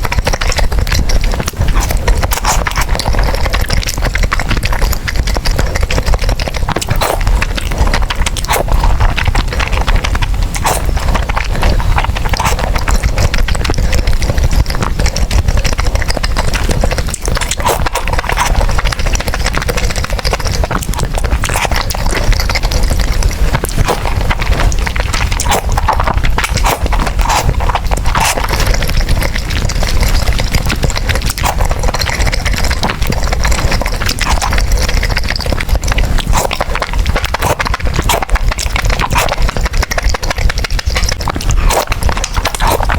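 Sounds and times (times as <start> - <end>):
person chewing noodles: 0.0 - 42.9
wet mouth clicks and smacks: 0.0 - 42.9.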